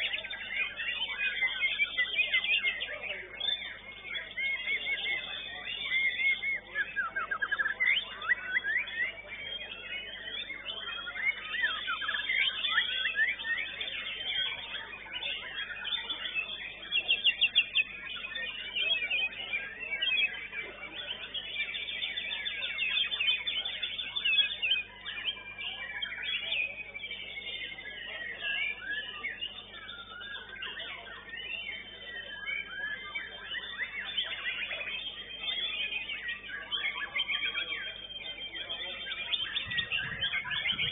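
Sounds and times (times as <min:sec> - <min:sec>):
other caged songbirds singing: 0:00.0 - 0:40.9
songbird singing whistles: 0:00.0 - 0:40.9.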